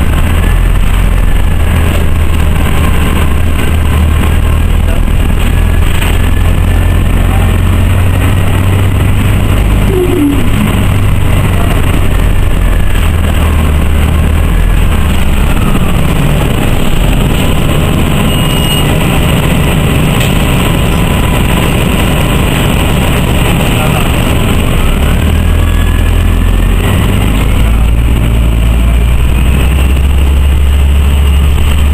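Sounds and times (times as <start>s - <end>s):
bus engine humming: 0.0s - 31.9s
road noise: 0.0s - 31.9s.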